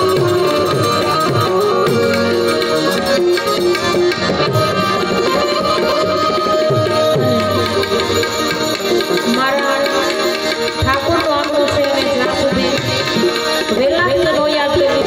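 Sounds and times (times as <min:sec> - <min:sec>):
harmonium held notes: 0:00.0 - 0:15.0
tabla playing: 0:00.0 - 0:15.0.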